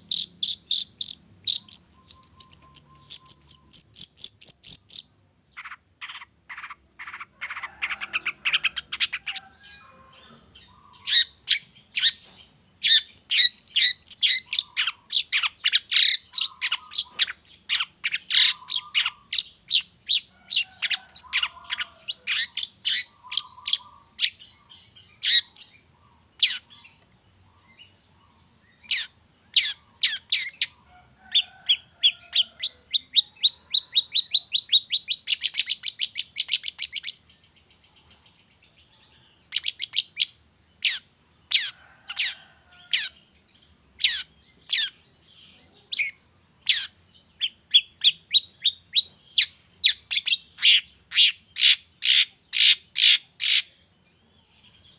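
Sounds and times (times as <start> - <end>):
bird chirping rapidly: 0.0 - 27.0, 28.7 - 30.8, 31.4 - 37.8, 39.4 - 43.1, 44.0 - 53.8.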